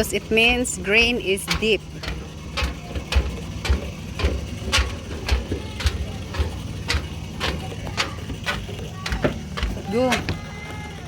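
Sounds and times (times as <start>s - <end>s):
low engine hum: 0.0s - 11.0s
footsteps walking: 1.5s - 10.9s.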